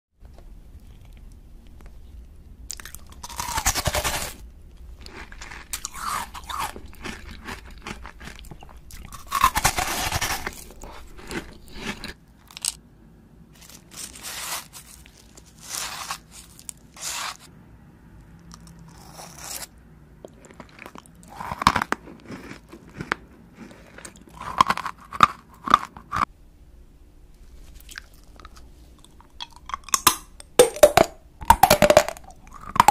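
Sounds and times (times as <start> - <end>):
crunching and chewing: 0.8 - 2.0, 2.7 - 12.8, 13.6 - 17.4, 18.4 - 26.3, 27.6 - 32.9.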